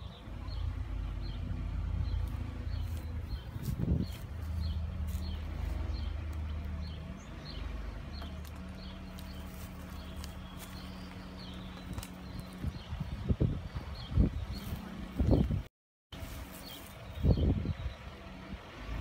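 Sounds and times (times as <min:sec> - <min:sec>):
bird chirping: 0:00.0 - 0:15.6, 0:16.4 - 0:18.2
van engine running: 0:00.0 - 0:19.0.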